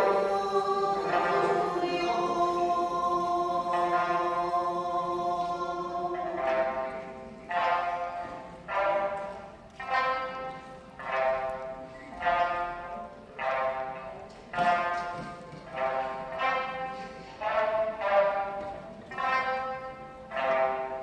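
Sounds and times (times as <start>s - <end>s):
plucked string ensemble: 0.0s - 21.0s.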